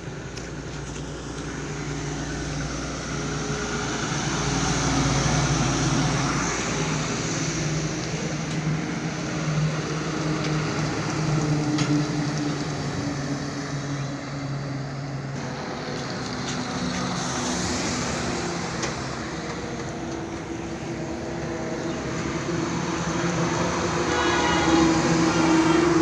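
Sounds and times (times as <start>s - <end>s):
road noise: 0.0s - 26.0s
truck engine droning: 0.0s - 26.0s.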